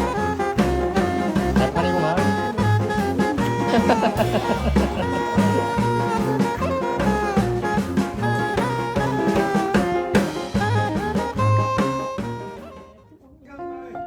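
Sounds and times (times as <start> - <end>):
drum kit beat: 0.0 - 13.0
brass: 0.0 - 13.2
walking bass: 0.0 - 13.3.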